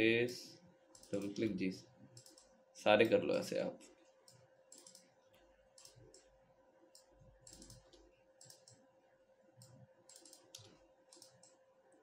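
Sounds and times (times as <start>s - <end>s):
faint electrical hum: 0.0s - 12.0s
computer mouse clicks: 0.9s - 8.9s, 9.6s - 12.0s.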